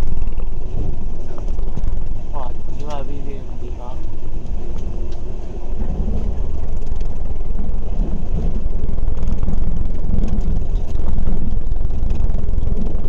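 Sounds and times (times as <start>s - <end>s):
bus engine rumble: 0.0s - 13.0s
road noise inside bus: 0.0s - 13.0s.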